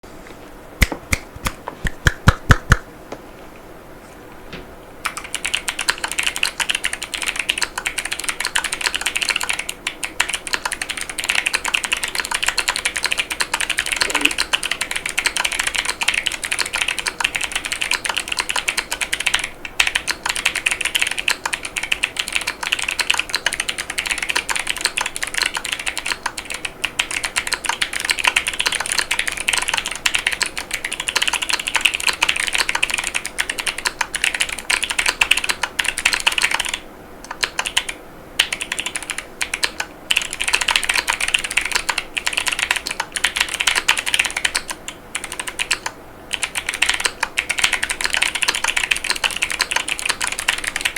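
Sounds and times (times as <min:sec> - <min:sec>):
fast typing on mechanical keyboard: 0:05.0 - 0:50.9.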